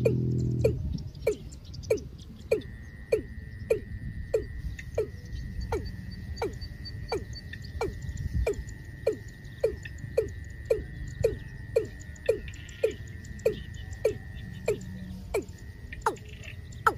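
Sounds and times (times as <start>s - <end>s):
bird calling deep notes: 0.0s - 16.9s.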